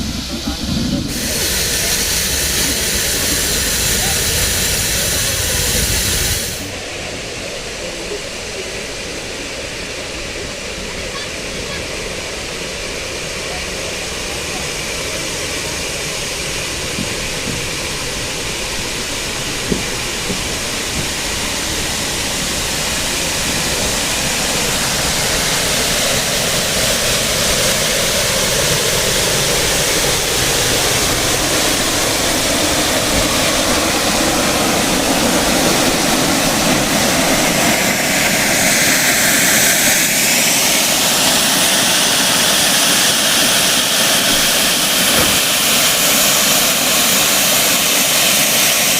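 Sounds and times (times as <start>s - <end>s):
train rushing rumble: 0.0s - 48.9s.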